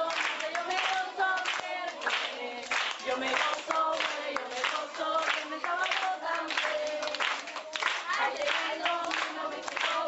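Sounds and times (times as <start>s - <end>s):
children singing: 0.0s - 10.0s
hands clapping: 0.0s - 10.0s.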